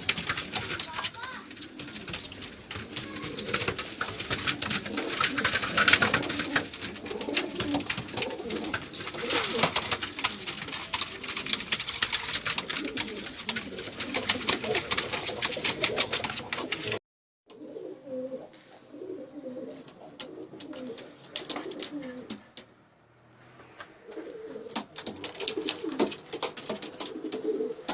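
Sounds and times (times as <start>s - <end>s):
pigeons cooing: 0.0s - 22.6s, 23.6s - 27.9s.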